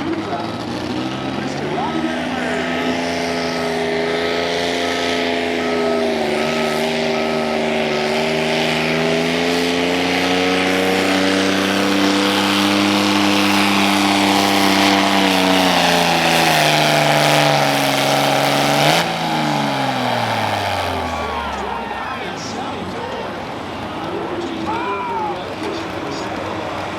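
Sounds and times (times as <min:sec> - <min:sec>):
vehicle engine running hard: 0:00.0 - 0:26.9.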